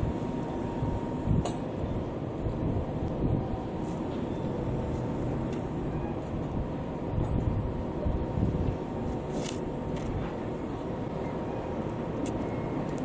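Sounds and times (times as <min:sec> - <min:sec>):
faint machinery hum: 0:00.0 - 0:13.0
low harbour rumble: 0:00.0 - 0:13.0.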